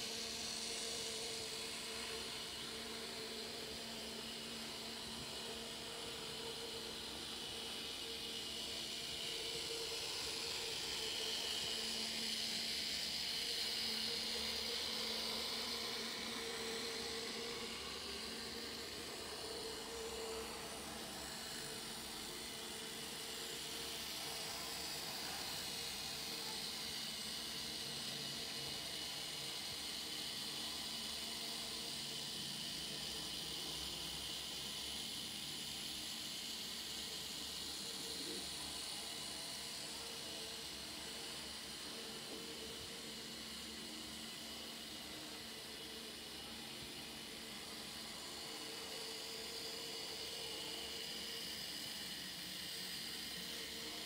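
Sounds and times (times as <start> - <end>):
model train whirring hiss: 0.0 - 54.0.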